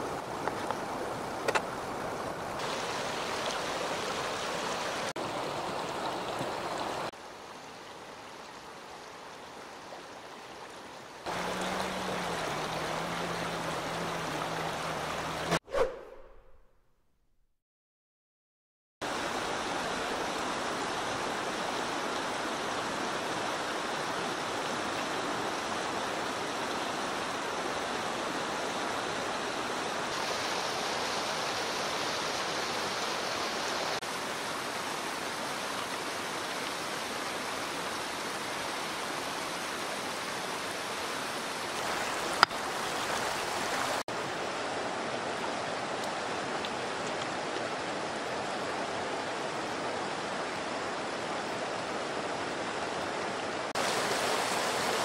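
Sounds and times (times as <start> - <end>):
river rushing over stones: 0.0 - 15.6, 19.0 - 55.0.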